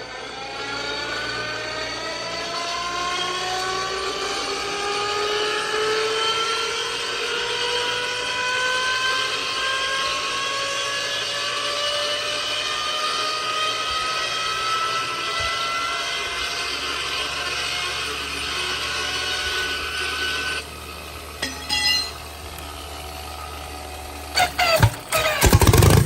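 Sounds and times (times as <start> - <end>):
inertia starter whine rising: 0.0 - 26.0.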